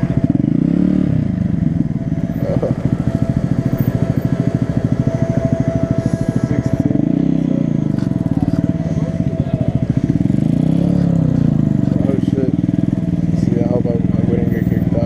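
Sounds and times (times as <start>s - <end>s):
motorcycle engine chugging: 0.0s - 15.0s.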